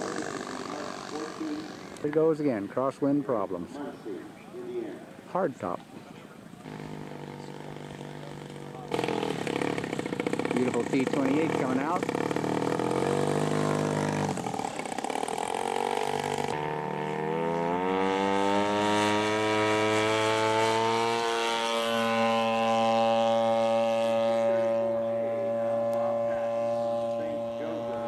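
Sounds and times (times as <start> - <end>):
model airplane engine revving: 0.0 - 2.4, 6.6 - 28.0.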